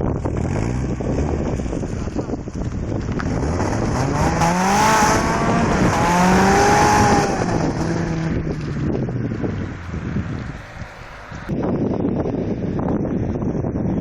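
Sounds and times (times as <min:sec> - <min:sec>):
car engine accelerating hard: 0:00.1 - 0:11.5.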